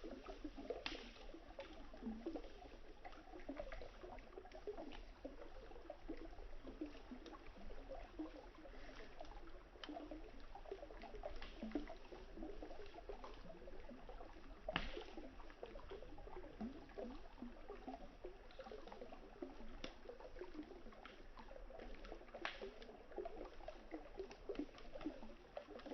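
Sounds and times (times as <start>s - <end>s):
river water burbling: 0.0s - 25.9s.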